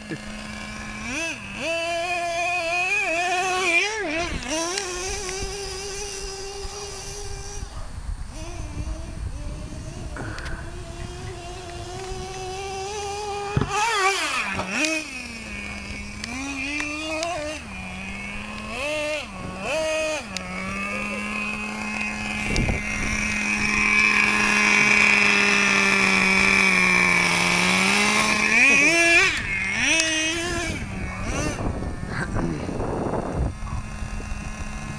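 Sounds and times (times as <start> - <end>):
model engine revving: 0.0 - 34.9.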